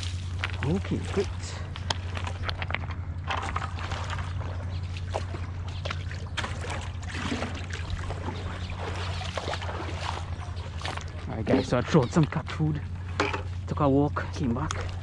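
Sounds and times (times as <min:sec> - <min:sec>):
steady low hum: 0:00.0 - 0:15.0
water splashing and lapping: 0:00.0 - 0:15.0.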